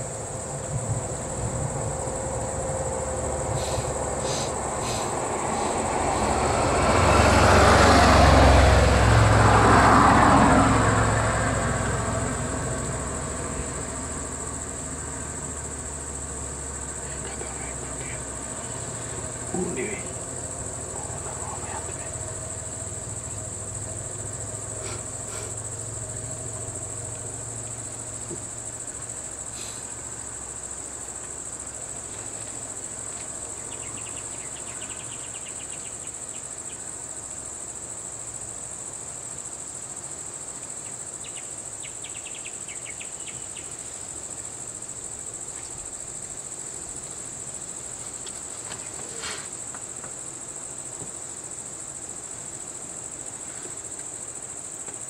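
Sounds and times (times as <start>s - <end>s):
insects droning: 0.0s - 55.0s
rapid insect chirping: 0.0s - 55.0s.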